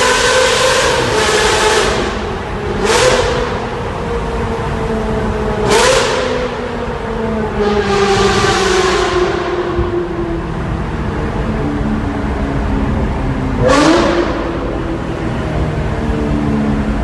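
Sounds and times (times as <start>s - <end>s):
engine revving in a tunnel: 0.0s - 17.0s.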